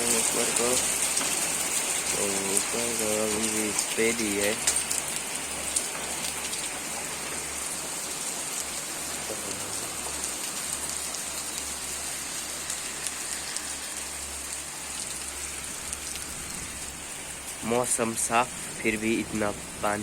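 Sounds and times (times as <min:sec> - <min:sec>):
heavy rain pattering: 0:00.0 - 0:20.0.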